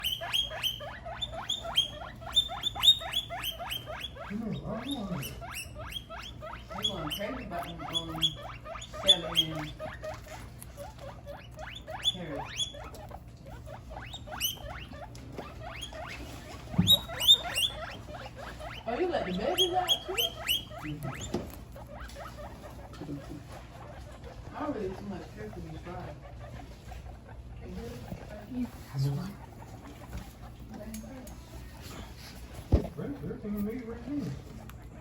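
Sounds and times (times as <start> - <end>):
guinea pigs squealing: 0.0 - 35.0.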